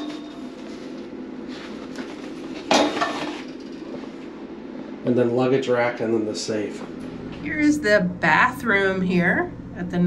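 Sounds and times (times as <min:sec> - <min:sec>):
room hum: 0:00.0 - 0:10.0.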